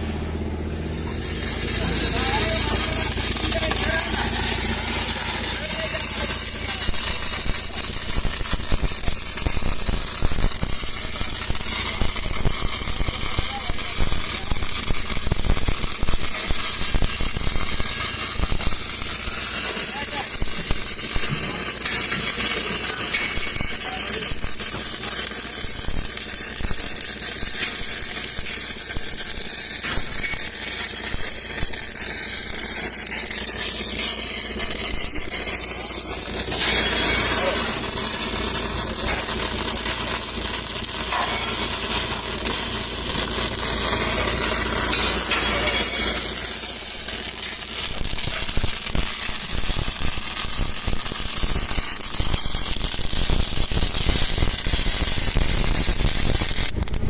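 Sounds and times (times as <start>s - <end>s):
welding arc crackling and hissing: 0.0s - 57.0s.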